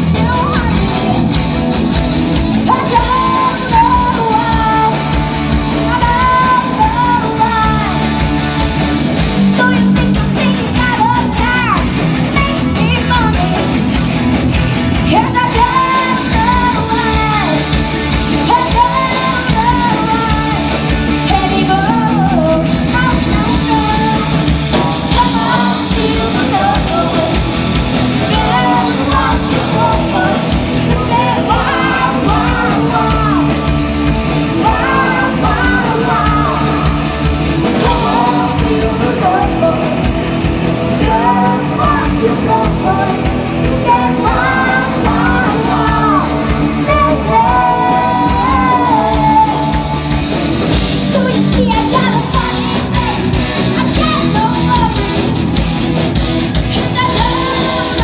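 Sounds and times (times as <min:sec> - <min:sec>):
live hard rock band: 0:00.0 - 0:58.0
lead vocalist singing: 0:02.5 - 0:13.8, 0:15.0 - 0:55.6, 0:56.6 - 0:58.0.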